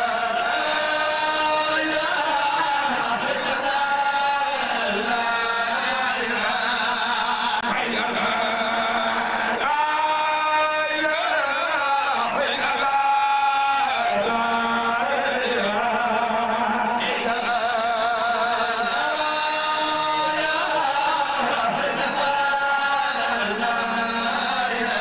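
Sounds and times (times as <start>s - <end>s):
man chanting devotional song: 0.0s - 25.0s.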